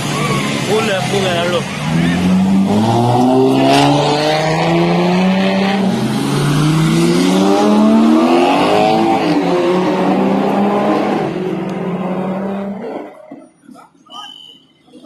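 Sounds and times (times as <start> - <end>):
sports car engine revving: 1.0 - 13.1.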